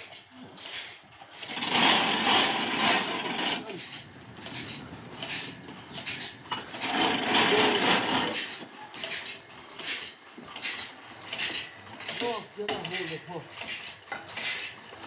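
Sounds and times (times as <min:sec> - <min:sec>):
metallic clanks and knocks: 0:00.0 - 0:15.0.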